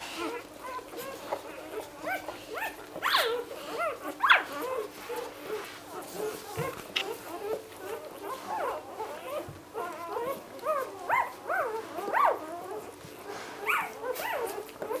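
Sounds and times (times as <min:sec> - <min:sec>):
puppies squeaking and crying: 0:00.1 - 0:15.0.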